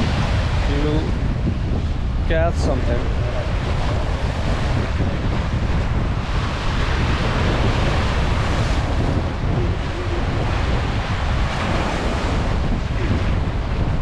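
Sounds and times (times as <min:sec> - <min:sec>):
waves breaking against rocks: 0:00.0 - 0:14.0
wind buffeting microphone: 0:00.0 - 0:14.0.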